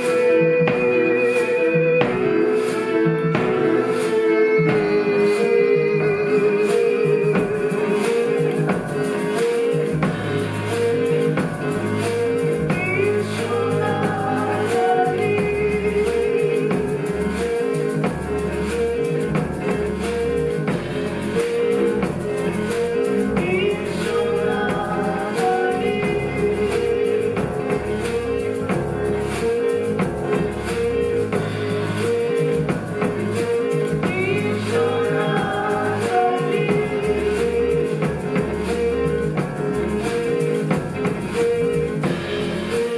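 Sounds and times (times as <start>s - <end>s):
live ensemble music: 0.0s - 42.9s
plucked strings: 0.0s - 42.9s
sustained bass notes: 0.0s - 42.9s.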